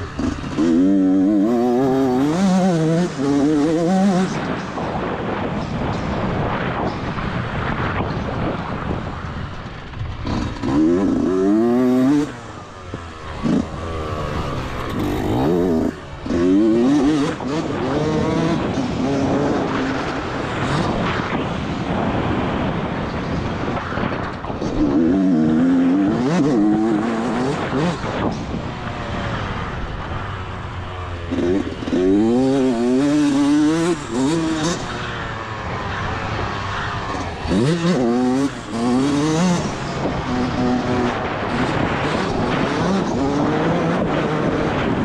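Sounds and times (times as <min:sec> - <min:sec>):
two-stroke engine revving: 0:00.0 - 0:05.1, 0:10.1 - 0:22.4, 0:24.4 - 0:45.0.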